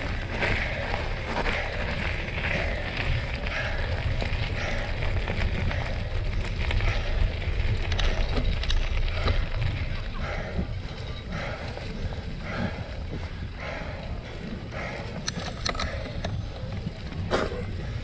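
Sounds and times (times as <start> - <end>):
bike tyre and drivetrain noise: 0.0 - 18.0
wind rumble on microphone: 0.0 - 18.0.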